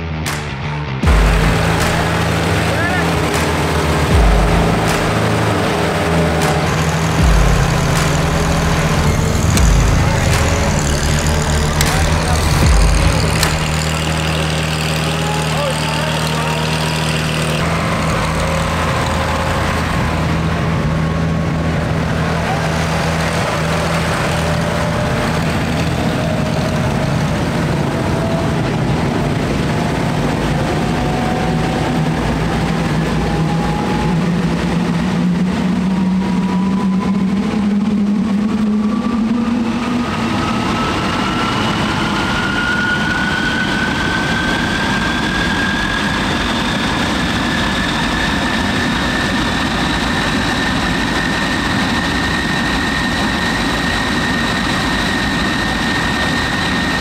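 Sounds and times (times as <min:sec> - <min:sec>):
low engine drone: 0:00.0 - 0:57.0
jet engine whine spooling up: 0:01.0 - 0:57.0.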